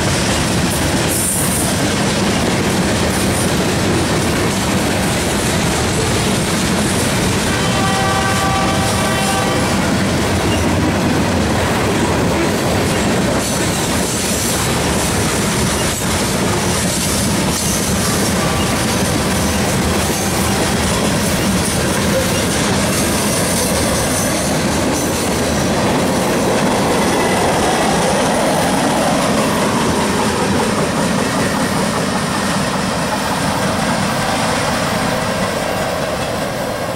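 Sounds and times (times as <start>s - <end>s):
steel wheels on track: 0.0s - 36.9s.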